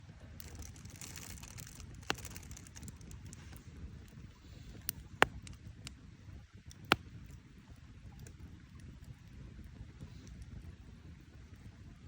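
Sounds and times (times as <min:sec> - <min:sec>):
fire popping: 0:00.0 - 0:11.9
campfire crackling: 0:00.0 - 0:12.0.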